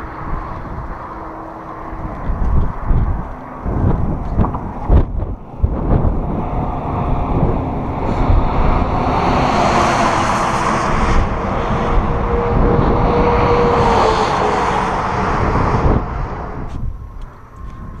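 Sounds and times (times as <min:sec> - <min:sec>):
vehicle passing by: 0:00.0 - 0:16.8
traffic noise: 0:00.0 - 0:18.0
wind buffeting microphone: 0:00.0 - 0:18.0.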